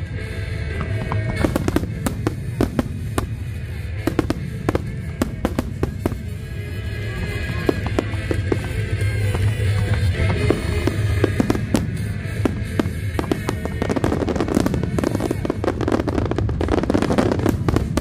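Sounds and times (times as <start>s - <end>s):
fireworks bursting and crackling: 0.0s - 18.0s
music playing: 0.0s - 18.0s.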